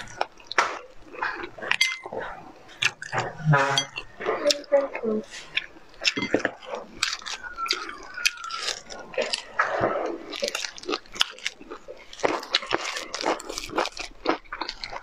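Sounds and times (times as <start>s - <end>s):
person chewing meat: 0.0s - 15.0s.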